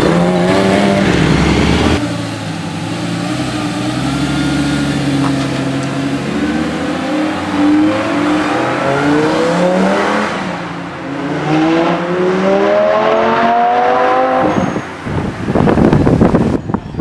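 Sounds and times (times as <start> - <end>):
car engine accelerating hard: 0.0 - 14.6.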